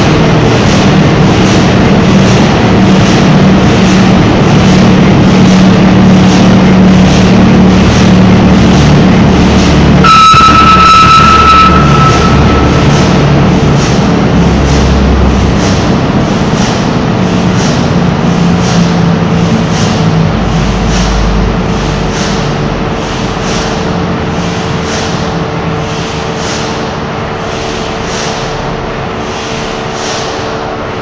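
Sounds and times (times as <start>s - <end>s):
constant hum: 0.0s - 31.0s
large diesel engine beating: 0.0s - 31.0s.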